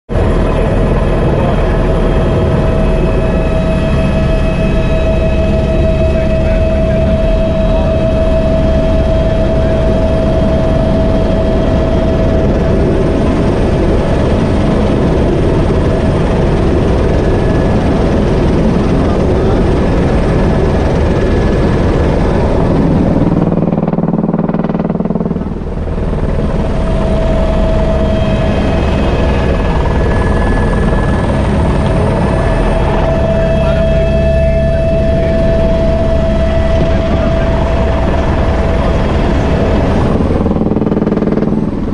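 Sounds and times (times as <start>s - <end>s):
helicopter engine and rotor noise: 0.1s - 41.9s.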